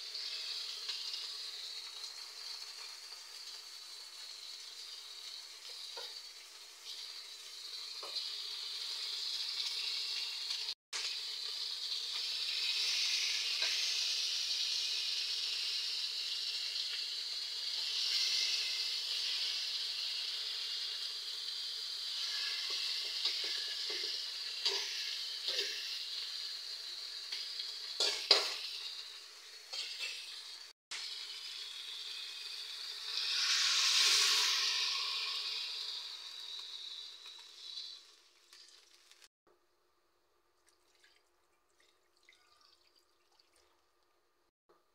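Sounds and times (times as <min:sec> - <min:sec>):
fish sizzling in oil: 0:00.0 - 0:39.4.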